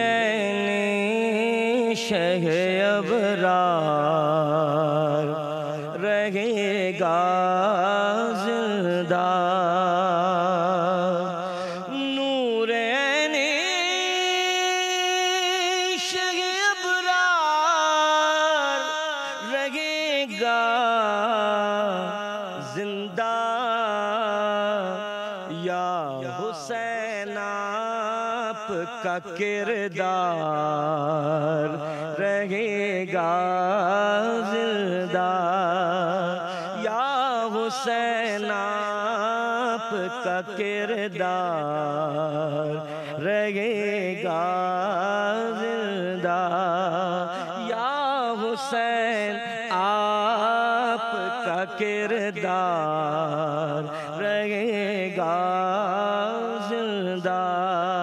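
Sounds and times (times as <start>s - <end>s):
man singing into a microphone: 0.0s - 58.0s.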